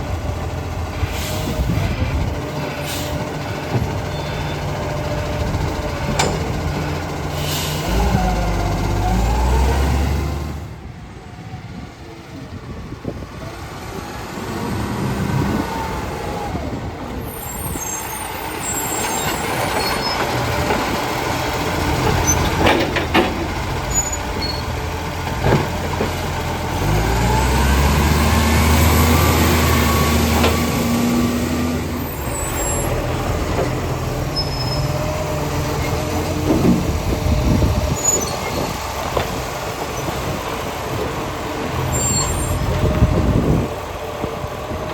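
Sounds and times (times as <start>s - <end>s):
diesel engine revving: 0.0s - 11.0s, 12.7s - 44.9s.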